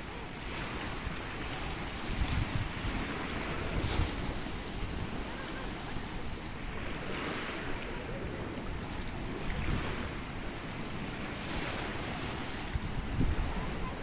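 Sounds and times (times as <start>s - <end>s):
waves washing over rocks: 0.0s - 14.0s
wind on microphone: 0.0s - 14.0s.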